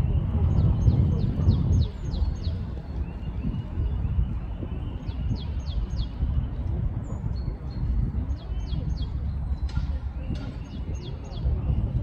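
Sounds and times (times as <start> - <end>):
songbird chirping: 0.0 - 12.0
steady low rumble: 0.0 - 12.0.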